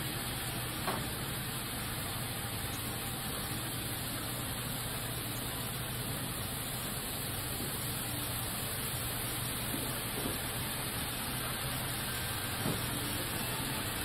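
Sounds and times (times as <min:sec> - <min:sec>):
model trains whirring on track: 0:00.0 - 0:14.0.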